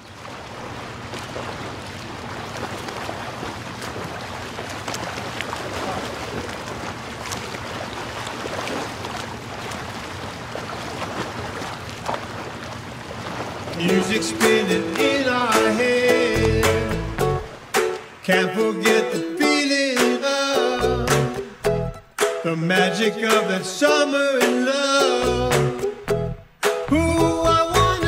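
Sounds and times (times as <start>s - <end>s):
ocean water rushing: 0.0s - 26.9s.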